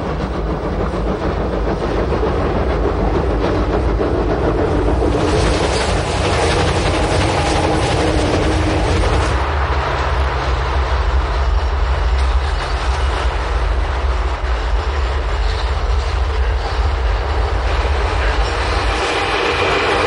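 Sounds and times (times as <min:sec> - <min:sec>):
steam train rumbling and rattling: 0:00.0 - 0:20.0.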